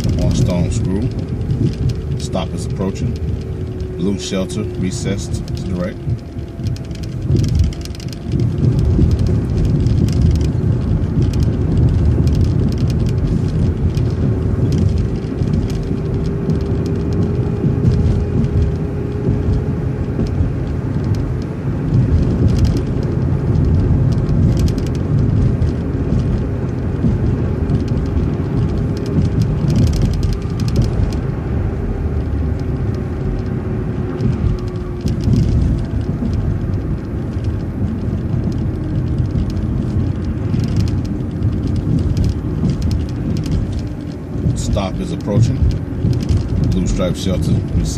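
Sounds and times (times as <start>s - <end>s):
steady whine: 0.0s - 47.9s
vehicle engine and tyres rumbling: 0.0s - 47.9s.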